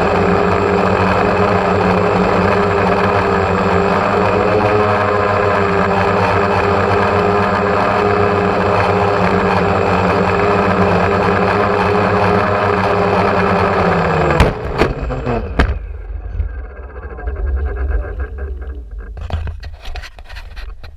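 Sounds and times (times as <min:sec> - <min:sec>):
drone motors buzzing: 0:00.0 - 0:19.8.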